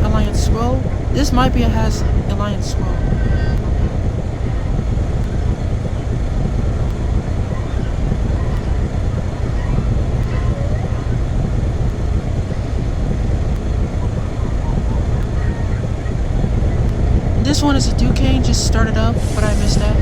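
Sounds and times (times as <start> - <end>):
air conditioner units droning: 0.0 - 20.0.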